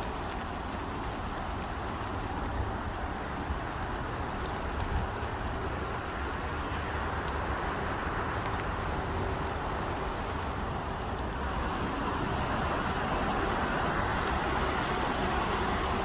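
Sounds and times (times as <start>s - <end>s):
distant road traffic hum: 0.0s - 16.0s.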